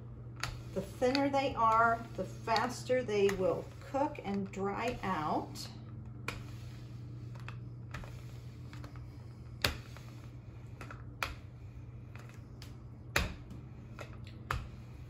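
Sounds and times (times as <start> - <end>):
rolling pin rolling dough: 0.0 - 15.0
steady low hum: 0.0 - 15.0.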